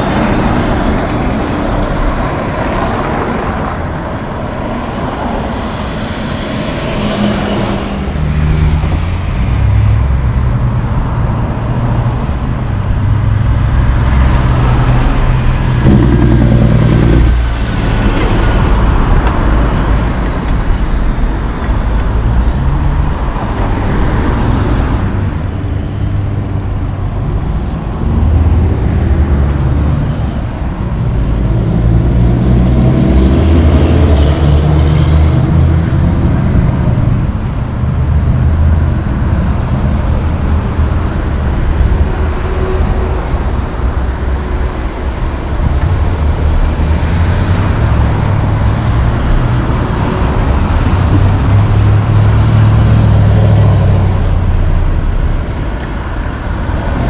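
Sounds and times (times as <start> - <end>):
diesel trucks driving past: 0.0 - 57.0
road traffic: 0.0 - 57.0.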